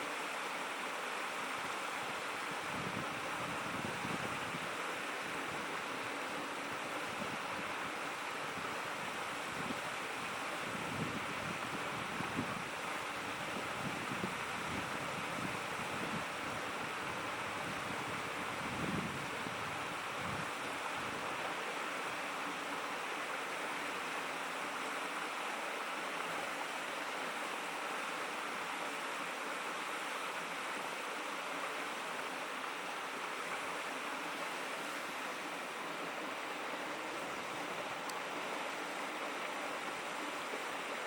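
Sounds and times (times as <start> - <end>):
stream babbling over stones: 0.0 - 41.0.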